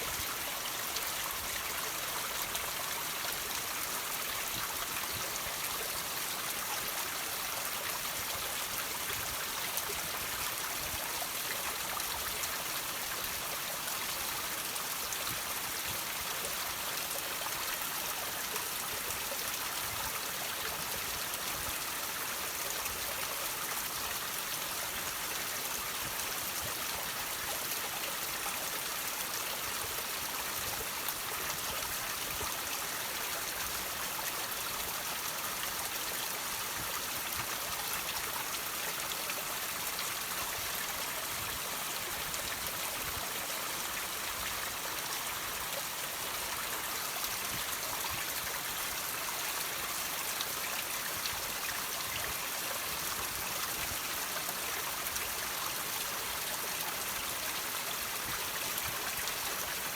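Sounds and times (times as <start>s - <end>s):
water running over rocks: 0.0s - 59.9s.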